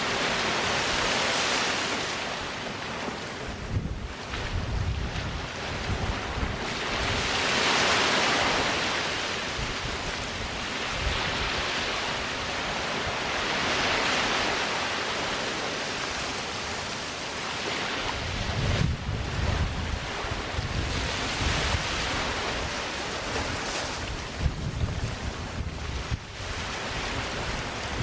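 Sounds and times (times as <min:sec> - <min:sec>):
waves breaking on beach: 0:00.0 - 0:28.0.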